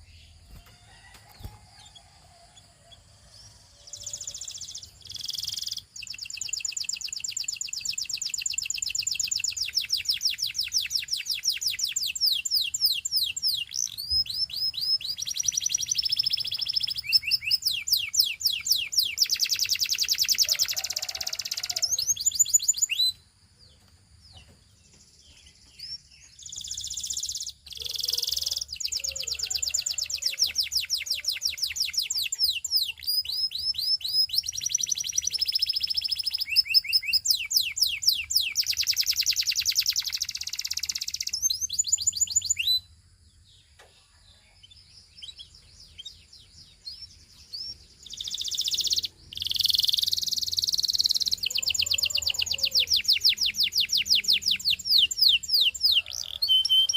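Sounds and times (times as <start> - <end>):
canary singing trills: 0.0 - 43.0, 43.6 - 56.9.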